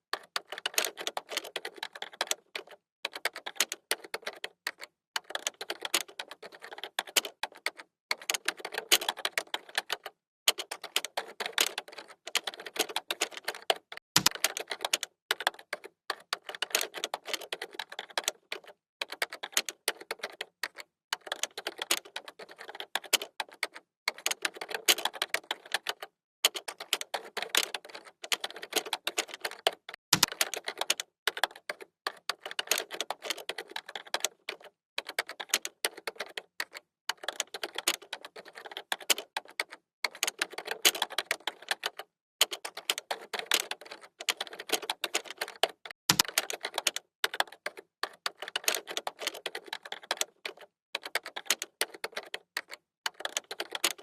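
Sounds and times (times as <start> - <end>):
computer keyboard typing: 0.0 - 54.0.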